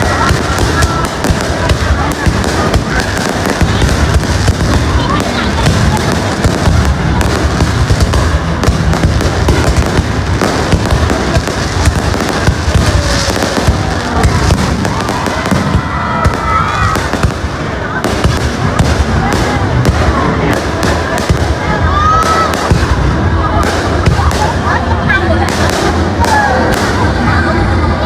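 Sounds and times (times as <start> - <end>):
fireworks bursts and bangs: 0.0 - 28.0
fireworks crackling: 0.0 - 28.0.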